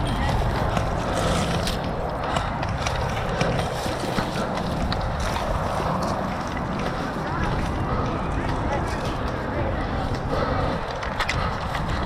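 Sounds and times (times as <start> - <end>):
footsteps on outdoor ground: 0.0 - 12.0
steady background noise: 0.0 - 12.0.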